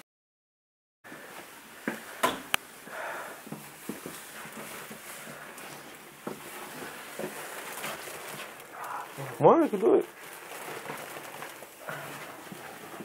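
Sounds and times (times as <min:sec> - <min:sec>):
soft rustling handling noise: 0:01.1 - 0:13.0.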